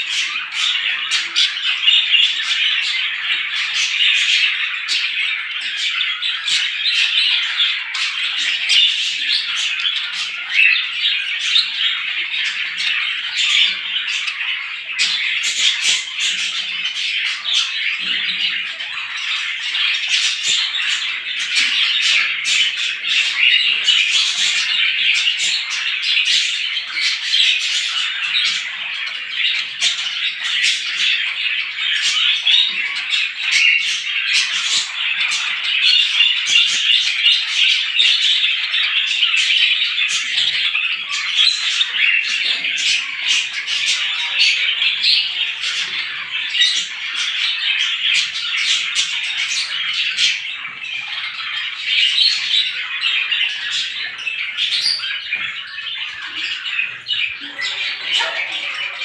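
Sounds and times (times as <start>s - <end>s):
flock of small birds chirping: 0.0s - 59.0s.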